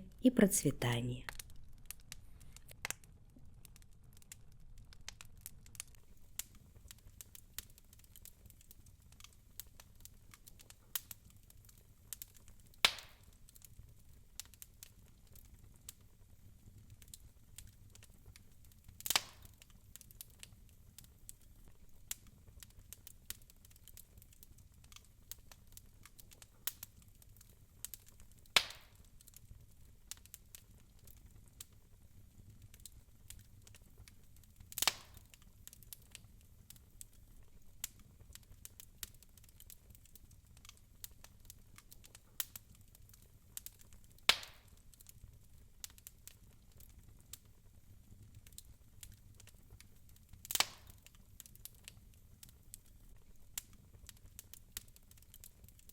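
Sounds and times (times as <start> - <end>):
wood fire crackling: 0.0 - 55.9
sharp pops of burning wood: 1.3 - 16.2, 16.8 - 31.8, 32.6 - 47.5, 48.3 - 55.9.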